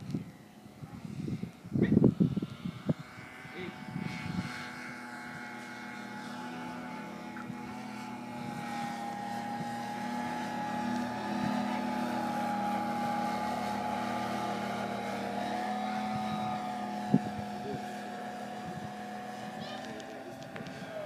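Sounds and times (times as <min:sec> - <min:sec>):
model plane engine drone: 0:00.0 - 0:21.0.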